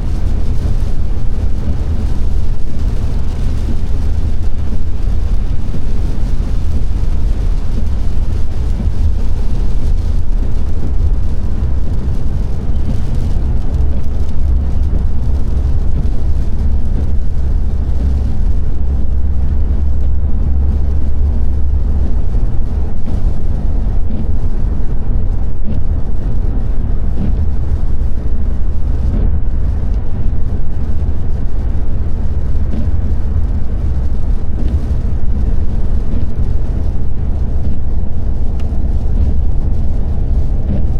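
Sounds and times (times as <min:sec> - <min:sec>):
car driving on wet road: 0:00.0 - 0:40.9.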